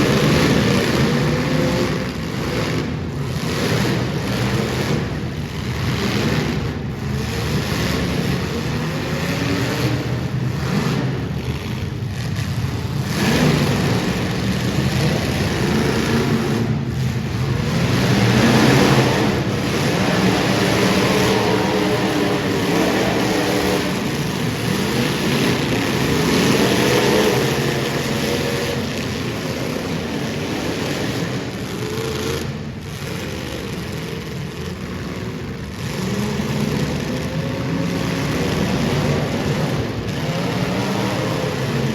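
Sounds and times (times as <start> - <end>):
race car engines at full throttle: 0.0 - 41.9.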